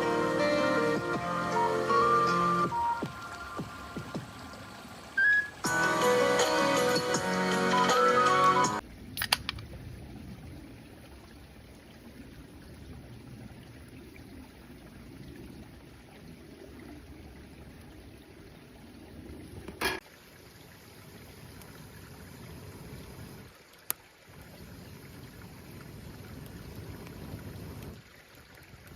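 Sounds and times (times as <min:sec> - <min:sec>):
mountain stream flowing: 0:00.0 - 0:28.9.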